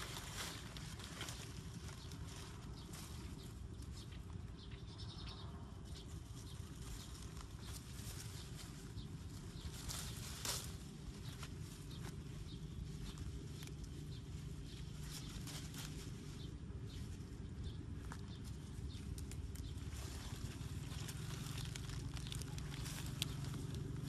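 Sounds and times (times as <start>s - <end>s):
low steady rumble: 0.0s - 24.0s
rustles and clicks of grass: 0.0s - 24.0s.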